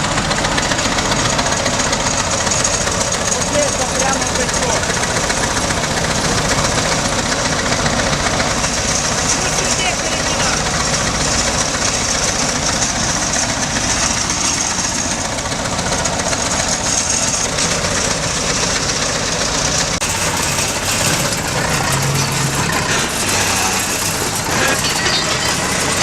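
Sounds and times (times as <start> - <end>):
construction machine engine running: 0.0 - 26.0.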